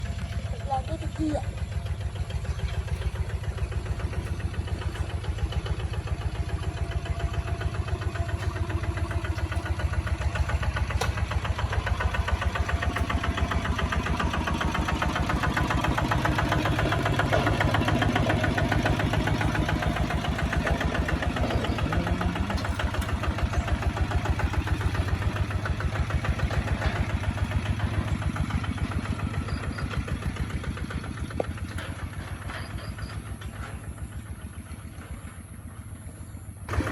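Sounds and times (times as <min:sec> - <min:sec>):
diesel tractor engine thudding: 0:00.0 - 0:36.9.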